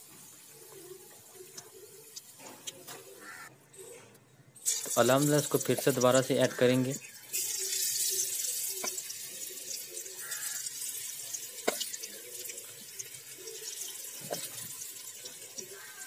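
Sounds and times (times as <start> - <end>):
pakoras sizzling in hot oil: 0.0 - 3.4, 4.6 - 16.0.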